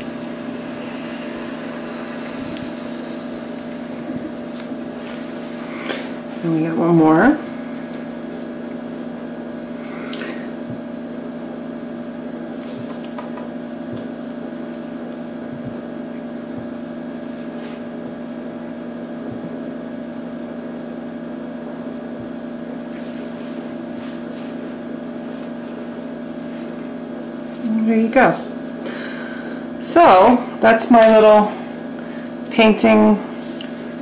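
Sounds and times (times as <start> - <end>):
appliance humming: 0.0 - 34.0.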